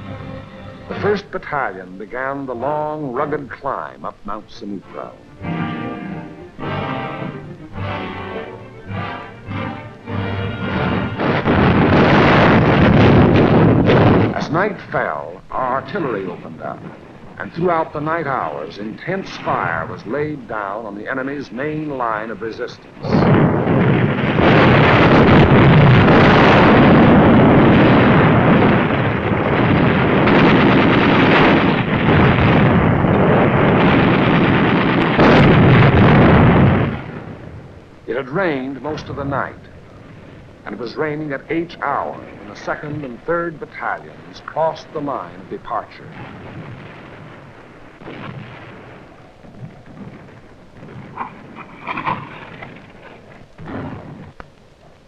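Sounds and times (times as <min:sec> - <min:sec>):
artillery barrage rumble: 0:00.0 - 0:55.0
steady background hiss: 0:00.0 - 0:55.0.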